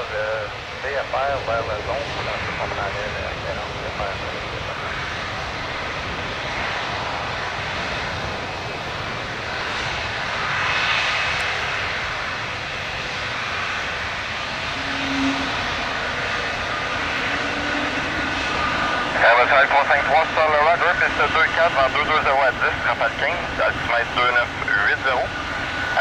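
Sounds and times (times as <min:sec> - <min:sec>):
jet engines at taxi power: 0:00.0 - 0:26.0.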